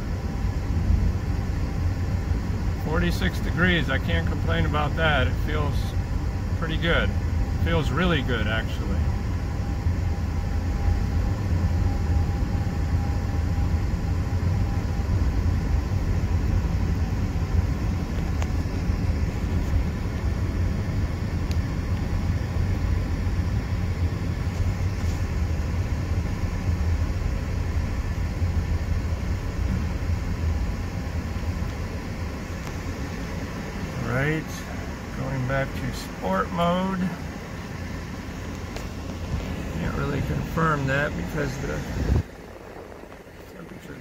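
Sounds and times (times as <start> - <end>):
car engine at low revs: 0.0 - 44.0
road and tyre noise in car cabin: 0.0 - 44.0.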